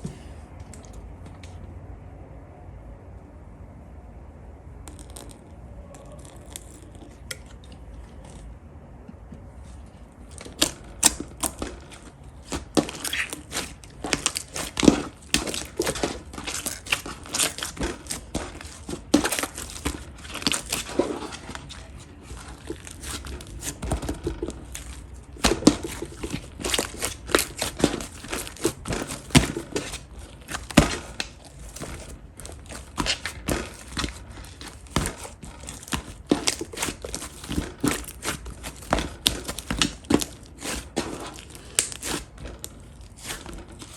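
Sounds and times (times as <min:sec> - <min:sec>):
slime crackling and popping: 0:04.8 - 0:07.5, 0:10.3 - 0:43.9.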